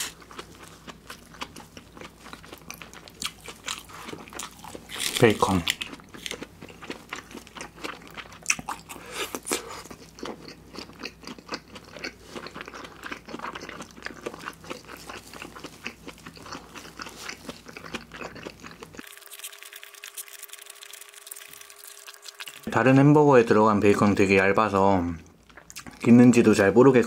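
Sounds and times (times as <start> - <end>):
burger chewing: 0.0 - 22.7.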